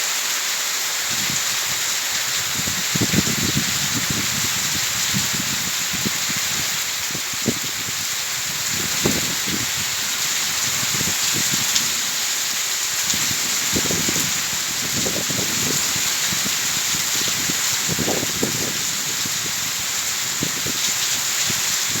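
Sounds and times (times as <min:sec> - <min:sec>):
heavy rain falling: 0:00.0 - 0:22.0
water runoff splashing: 0:00.0 - 0:22.0.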